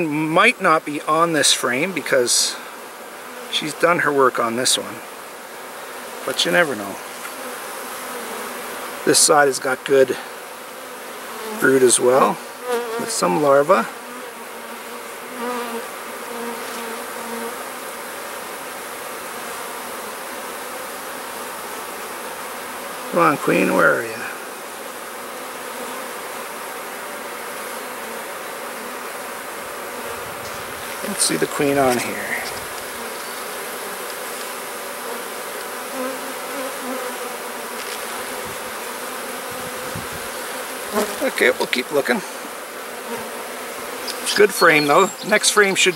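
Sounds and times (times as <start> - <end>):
honeybees buzzing: 0.0 - 45.9
single bee flying close by: 2.5 - 45.9.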